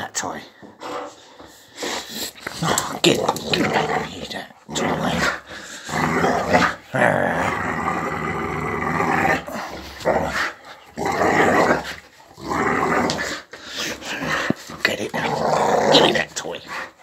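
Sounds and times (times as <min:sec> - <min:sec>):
dog growling: 0:01.8 - 0:17.0.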